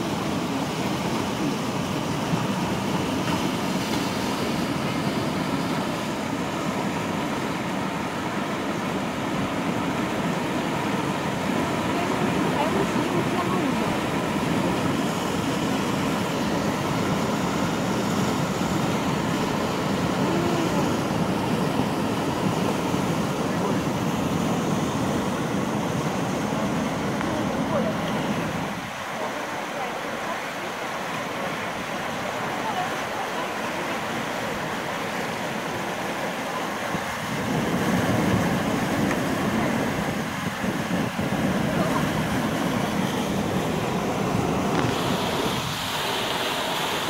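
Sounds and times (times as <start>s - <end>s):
rushing tidal rapids: 0.0s - 47.0s.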